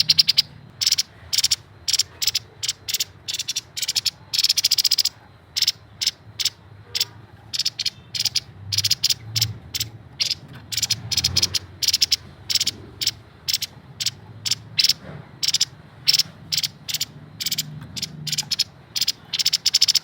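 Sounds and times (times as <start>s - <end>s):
bird chattering trills: 0.0s - 20.0s.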